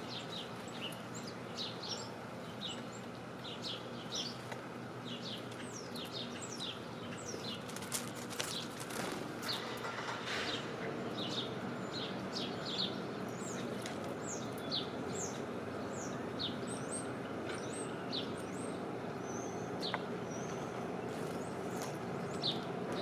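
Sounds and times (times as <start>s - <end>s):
low background hum: 0.0s - 23.0s
small birds chirping: 0.0s - 23.0s.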